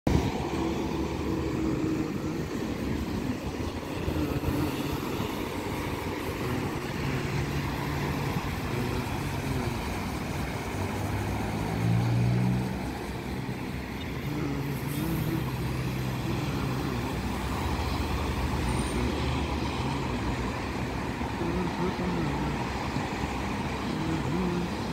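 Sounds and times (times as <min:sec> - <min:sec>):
road traffic hum: 0:00.0 - 0:24.9
vehicle passing: 0:00.1 - 0:24.9.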